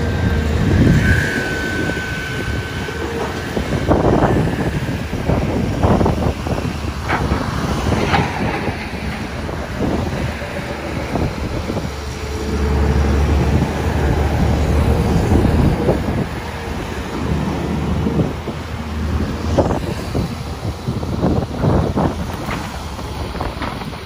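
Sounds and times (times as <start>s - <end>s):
excavator diesel engine: 0.0s - 24.0s
hydraulic whine: 0.0s - 24.0s.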